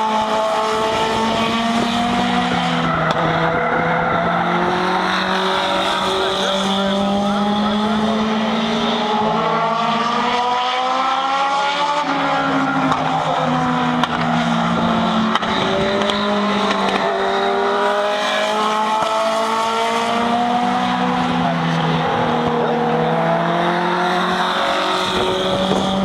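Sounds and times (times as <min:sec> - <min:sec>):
race car engines accelerating: 0:00.0 - 0:26.0.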